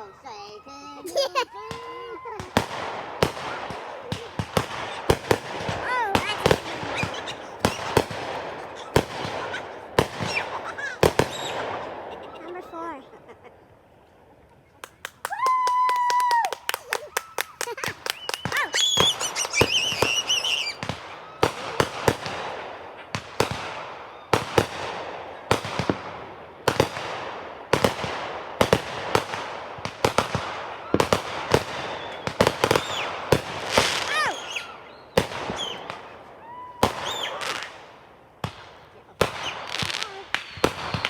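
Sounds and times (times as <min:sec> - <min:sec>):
fireworks bangs echoing: 0:00.0 - 0:13.9, 0:15.5 - 0:41.0
whistling firework shells: 0:01.6 - 0:12.4, 0:14.8 - 0:41.0.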